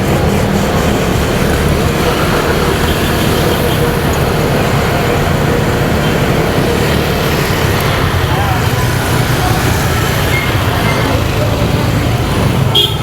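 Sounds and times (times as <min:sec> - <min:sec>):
motorcycle engine: 0:00.0 - 0:13.0
road noise: 0:00.0 - 0:13.0.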